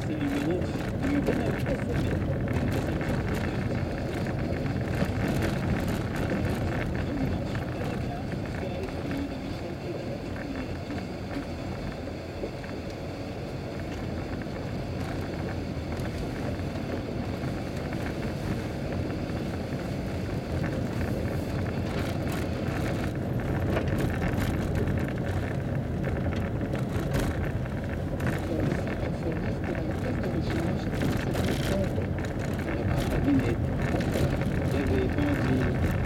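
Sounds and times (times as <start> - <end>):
car tyres and engine rumble: 0.0 - 36.0
gravel ticking against car: 0.0 - 36.0.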